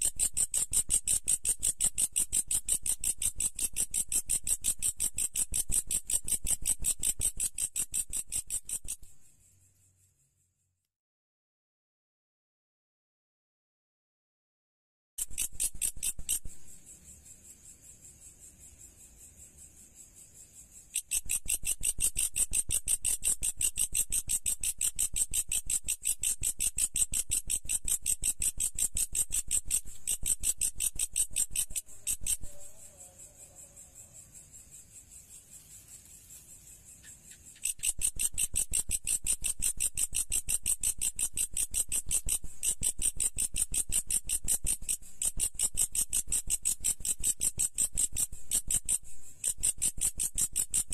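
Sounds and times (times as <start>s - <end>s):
insect trilling: 0.0s - 9.5s, 15.2s - 50.9s.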